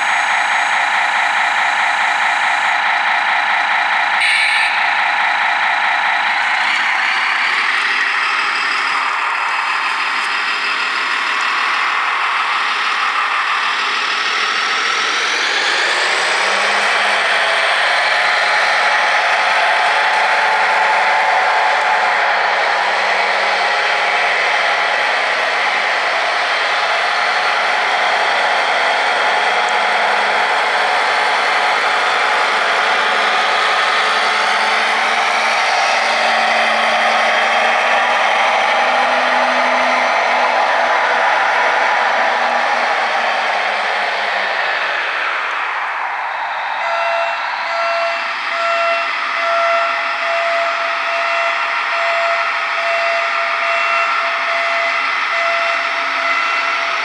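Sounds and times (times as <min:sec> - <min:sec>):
faint rising whine: 0:00.0 - 0:51.2
model truck diesel engine sound: 0:00.0 - 0:57.0.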